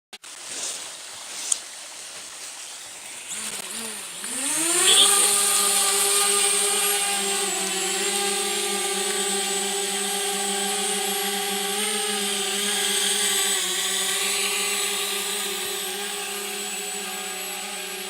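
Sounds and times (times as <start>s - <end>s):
drone propellers whining: 3.0s - 18.0s.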